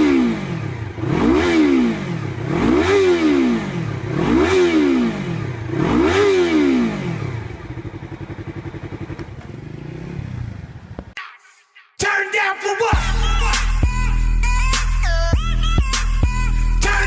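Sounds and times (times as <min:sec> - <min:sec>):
motorcycle engine revving and idling: 0:00.0 - 0:11.2, 0:13.0 - 0:17.0.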